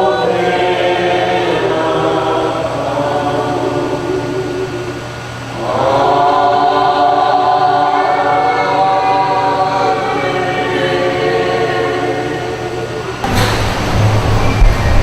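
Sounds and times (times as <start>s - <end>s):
group singing long held notes: 0.0s - 15.0s.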